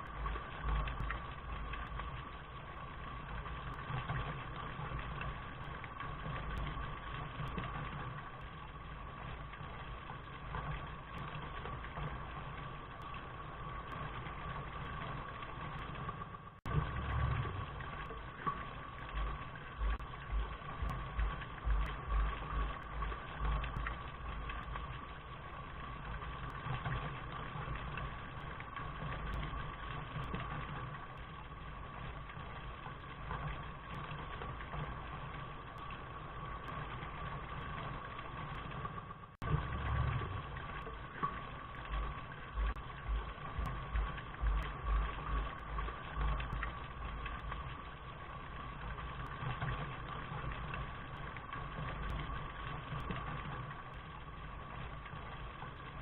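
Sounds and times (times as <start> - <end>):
low rumble: 0.0 - 55.9
rain hiss: 0.0 - 56.0.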